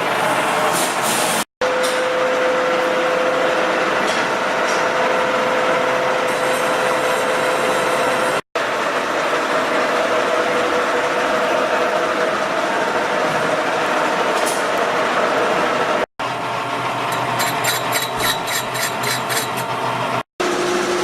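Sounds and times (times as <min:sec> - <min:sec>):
workshop machinery whirring: 0:00.0 - 0:21.0.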